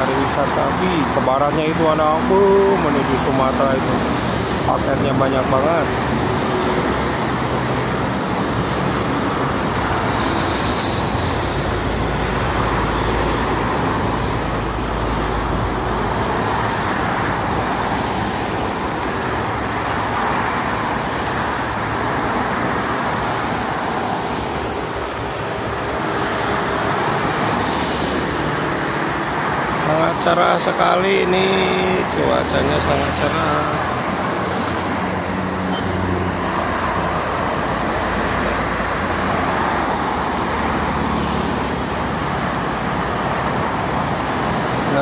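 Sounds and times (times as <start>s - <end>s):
deep traffic rumble: 0.0s - 45.0s
expressway traffic passing: 0.0s - 45.0s.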